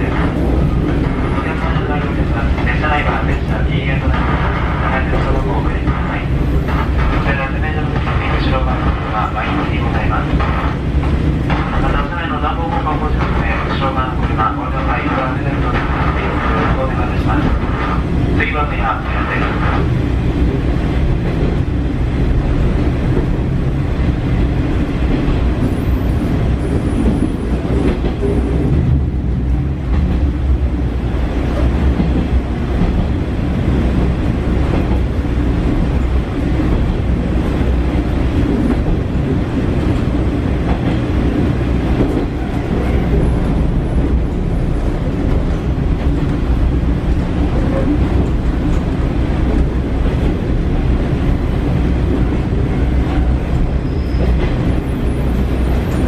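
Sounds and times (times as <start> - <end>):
diesel railcar engine rumble: 0.0 - 56.0.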